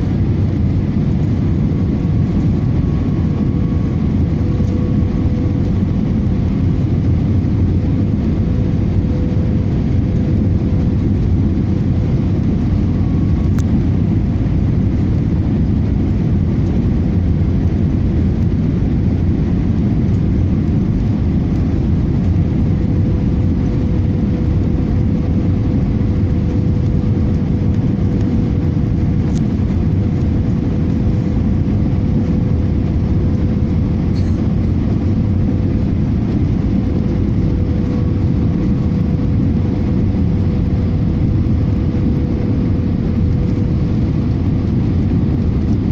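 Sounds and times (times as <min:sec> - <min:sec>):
airliner cabin rumble: 0:00.0 - 0:45.9
constant hum: 0:00.0 - 0:45.9.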